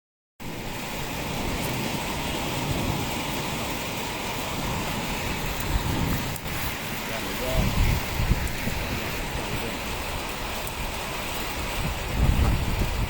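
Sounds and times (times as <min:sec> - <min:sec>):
heavy rain pouring: 0:00.4 - 0:13.0.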